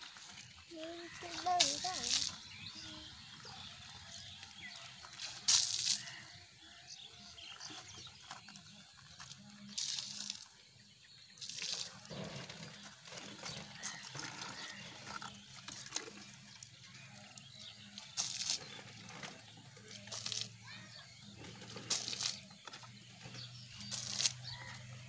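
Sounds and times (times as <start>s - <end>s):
water splashing on ground: 0.1s - 6.4s, 8.4s - 10.6s, 11.3s - 20.7s, 21.6s - 25.0s.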